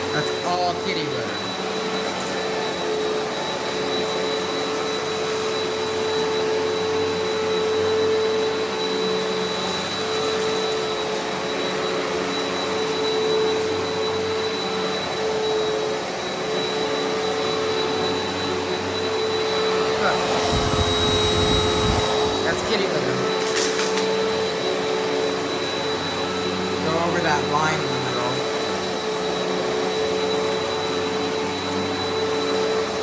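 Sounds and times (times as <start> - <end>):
vacuum cleaner running on carpet: 0.0 - 33.0.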